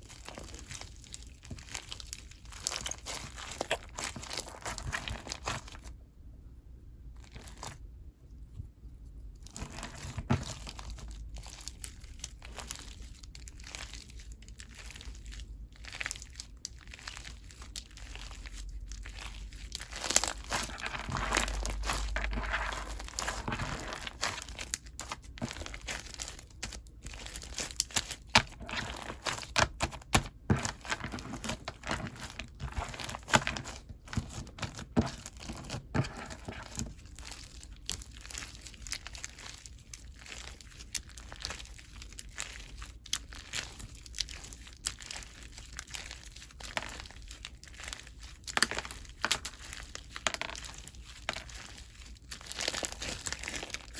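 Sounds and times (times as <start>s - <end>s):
slime being squished: 0.0s - 5.8s, 9.5s - 53.9s.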